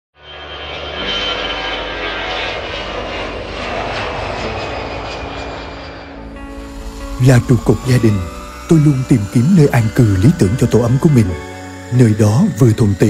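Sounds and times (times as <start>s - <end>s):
jet airliner passing overhead: 0.2s - 13.0s.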